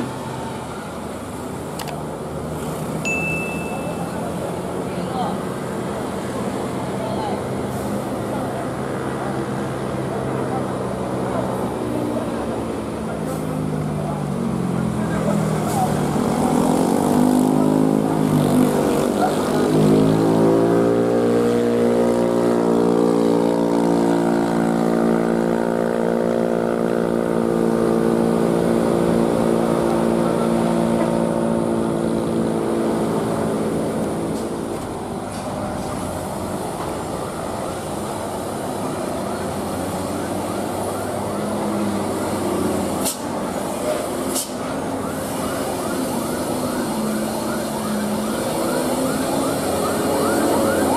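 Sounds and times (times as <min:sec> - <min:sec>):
bus diesel engine: 0:00.0 - 0:50.9
cars and trucks engine noise: 0:00.0 - 0:50.9.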